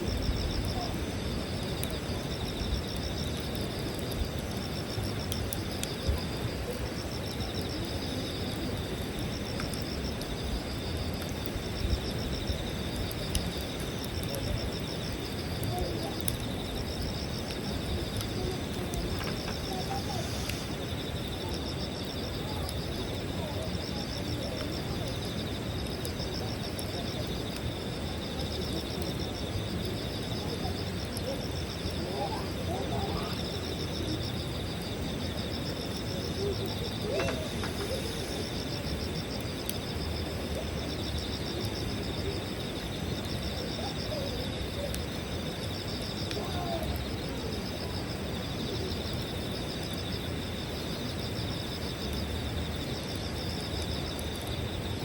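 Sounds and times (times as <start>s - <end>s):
campfire crackles: 0.0s - 55.0s
night insects chirping: 0.0s - 55.0s.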